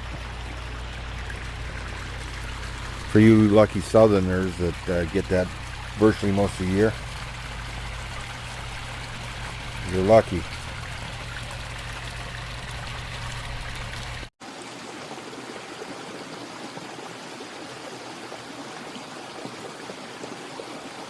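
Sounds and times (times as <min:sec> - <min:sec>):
water running down waterfall: 0:00.0 - 0:21.0.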